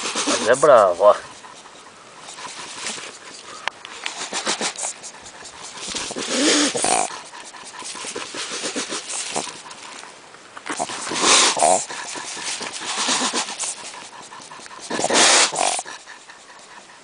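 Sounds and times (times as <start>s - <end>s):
animal huffing and hissing: 0.0s - 17.0s.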